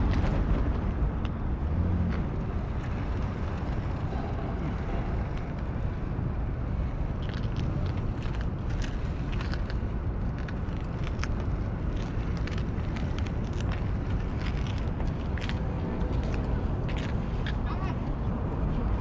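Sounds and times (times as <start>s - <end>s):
traffic rumble: 0.0s - 19.0s
wind on microphone: 0.0s - 19.0s.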